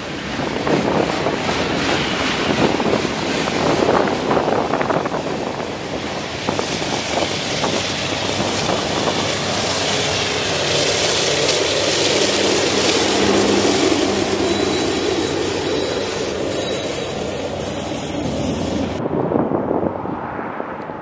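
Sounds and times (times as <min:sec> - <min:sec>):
freight train rumbling on rails: 0:00.0 - 0:20.3.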